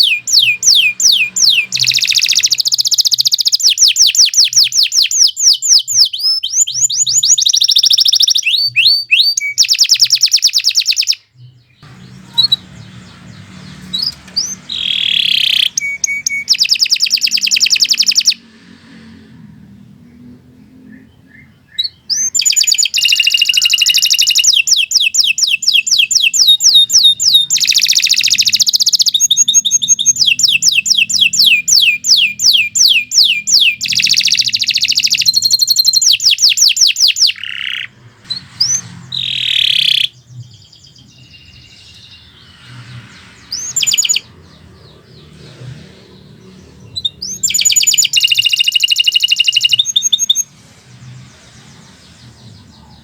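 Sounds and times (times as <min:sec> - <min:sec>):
canary singing trills: 0:00.0 - 0:18.5, 0:19.6 - 0:53.0.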